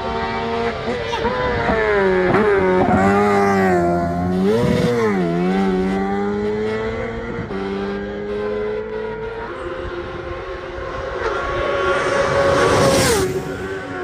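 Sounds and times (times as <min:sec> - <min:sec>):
racing motorcycle engine passing: 0:00.0 - 0:14.0.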